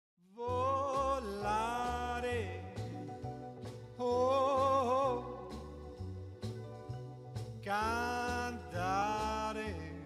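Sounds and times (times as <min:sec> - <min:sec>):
orchestral pop song: 0:00.3 - 0:10.0.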